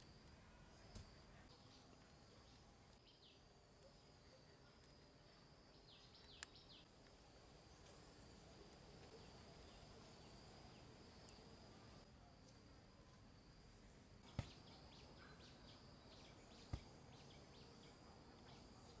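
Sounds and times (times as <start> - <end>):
insect chirps: 0.0 - 19.0.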